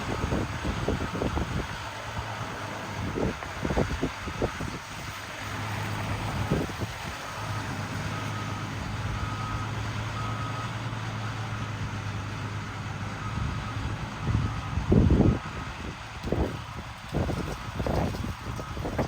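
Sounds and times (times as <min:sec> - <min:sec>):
truck engine hum: 0:00.0 - 0:19.0
truck reversing alarm beeping: 0:00.0 - 0:19.0.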